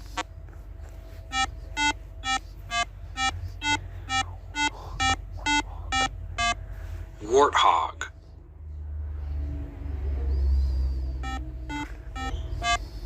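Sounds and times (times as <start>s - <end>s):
faint steady tone: 0.0s - 13.0s.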